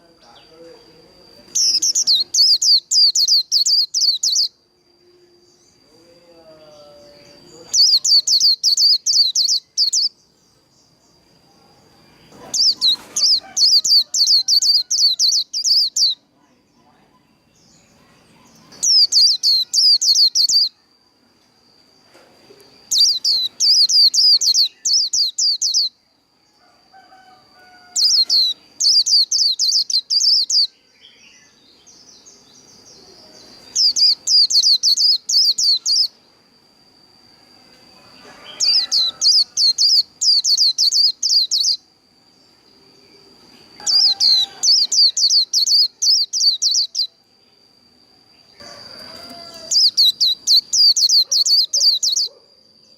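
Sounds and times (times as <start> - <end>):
bird twittering song: 0.0 - 36.4, 38.2 - 52.9
faint steady high tone: 0.0 - 52.9.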